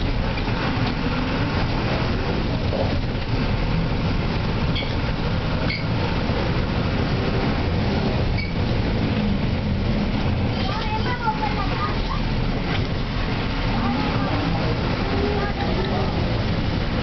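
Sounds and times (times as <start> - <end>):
vehicle rumble on dirt road: 0.0 - 17.0.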